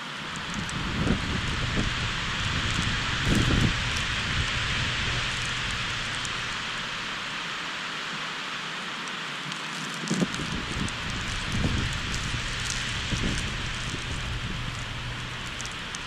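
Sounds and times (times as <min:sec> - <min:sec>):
snowstorm wind hiss: 0:00.0 - 0:16.0
wind buffeting microphone: 0:00.2 - 0:07.4, 0:10.1 - 0:16.0.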